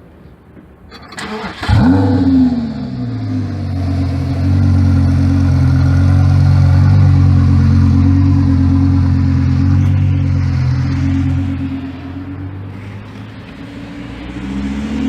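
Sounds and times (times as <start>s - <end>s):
sports car engine idling: 1.7s - 14.0s.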